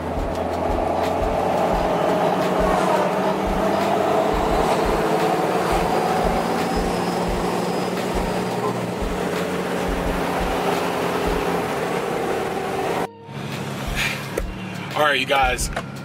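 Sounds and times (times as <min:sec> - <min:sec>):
truck diesel engine drone: 0:00.0 - 0:15.2.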